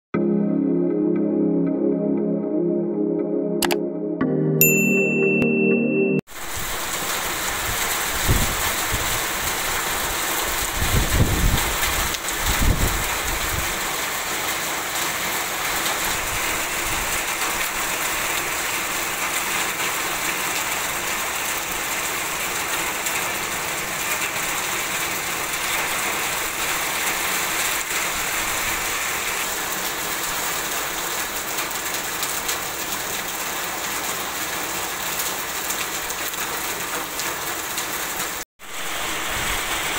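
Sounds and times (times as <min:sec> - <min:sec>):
heavy rain: 0:06.3 - 0:39.9.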